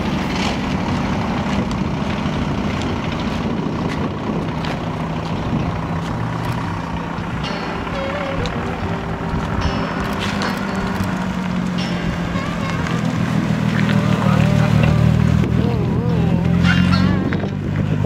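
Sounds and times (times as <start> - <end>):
car engine low drone: 0.0 - 18.0.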